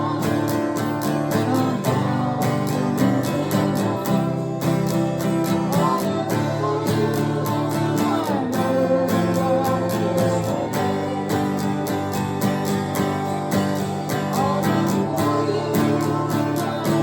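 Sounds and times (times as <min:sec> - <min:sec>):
acoustic guitar strumming: 0:00.0 - 0:17.0
guitar melody: 0:00.0 - 0:17.0.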